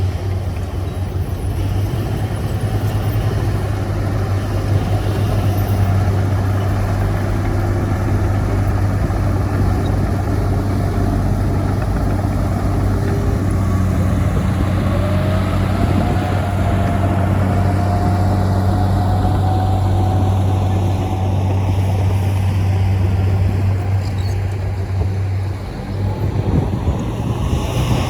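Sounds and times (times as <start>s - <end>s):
diesel machinery engine hum: 0.0s - 28.0s
engine whine rising in pitch: 1.6s - 28.0s.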